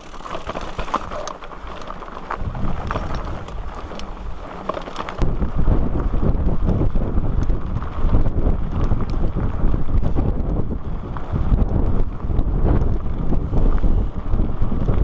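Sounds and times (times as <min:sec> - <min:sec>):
bike clicks and rattles: 0:00.0 - 0:15.0
bike rolling over gravel: 0:00.0 - 0:15.0
wind buffeting microphone: 0:00.0 - 0:15.0.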